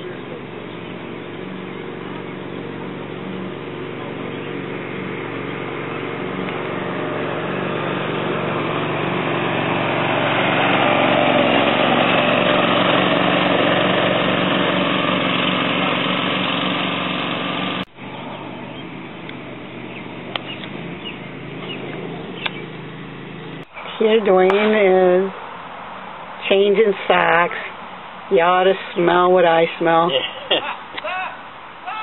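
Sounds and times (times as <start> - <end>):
outdoor ambience: 0.0 - 32.0
riding mower engine running: 0.0 - 32.0.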